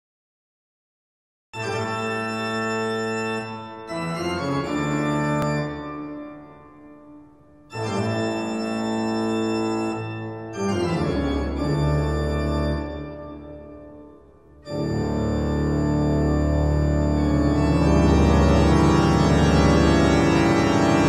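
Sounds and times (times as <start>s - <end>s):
organ chords: 1.6s - 21.0s.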